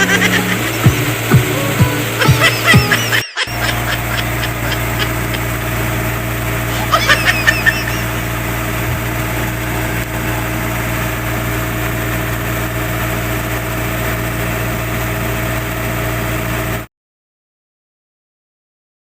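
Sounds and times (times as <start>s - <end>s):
generator engine running: 0.0s - 16.9s.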